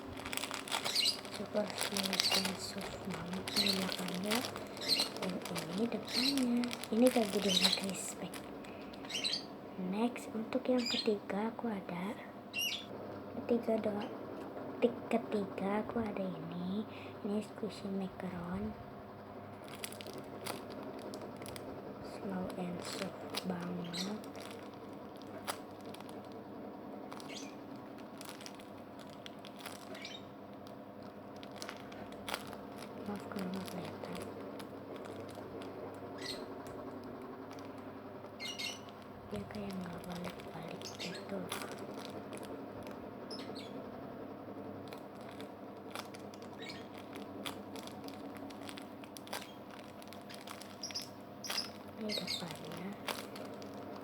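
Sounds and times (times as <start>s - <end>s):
soft crackles: 0.0s - 9.5s, 19.5s - 54.0s
squishy toy crinkling and rustling: 0.0s - 9.5s, 19.5s - 43.8s, 44.5s - 54.0s
low background hum: 0.0s - 54.0s.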